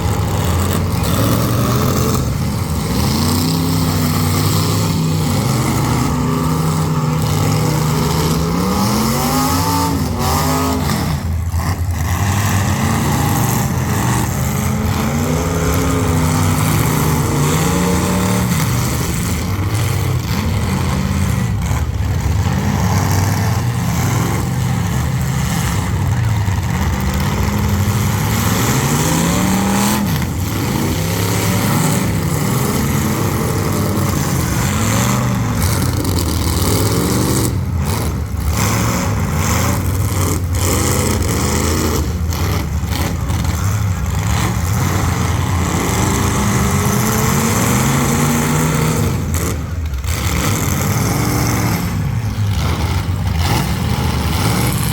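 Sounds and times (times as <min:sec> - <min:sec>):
car engines revving: 0:00.0 - 0:54.9.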